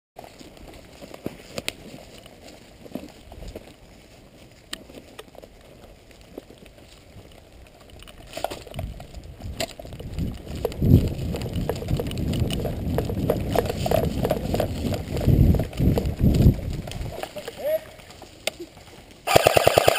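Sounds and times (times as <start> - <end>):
leaves and twigs crackling: 0.2 - 19.9
running footsteps through dry leaves: 0.2 - 19.9.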